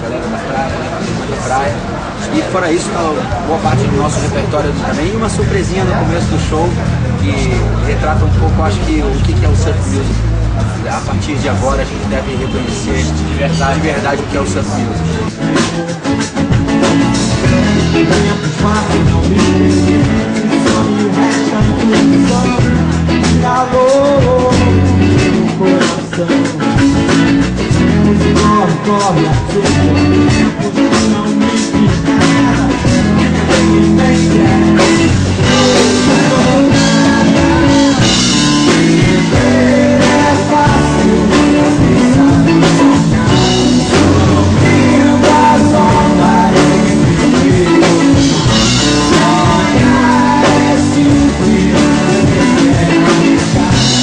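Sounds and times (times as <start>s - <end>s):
drum beats: 0.0s - 54.0s
surf rock band playing: 0.0s - 54.0s
person singing: 3.2s - 54.0s.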